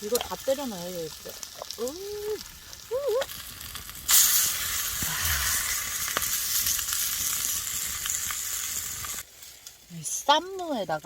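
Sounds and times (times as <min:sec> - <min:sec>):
chicken sizzling on hot griddle: 0:00.0 - 0:11.0.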